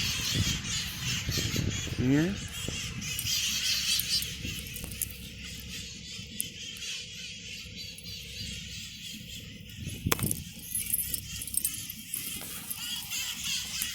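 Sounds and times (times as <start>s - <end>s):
low city rumble: 0.0s - 13.9s
parrots calling and chattering: 0.0s - 13.9s.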